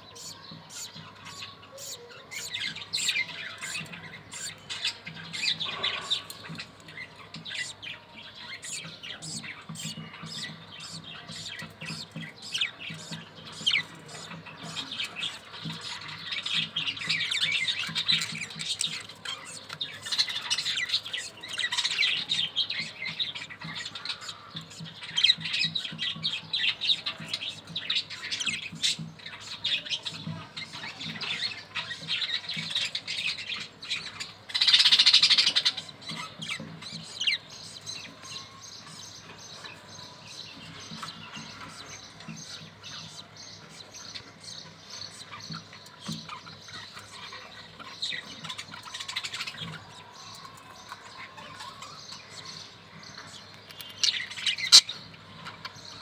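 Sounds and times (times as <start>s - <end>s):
budgerigars chattering: 0.0s - 50.0s, 50.8s - 56.0s.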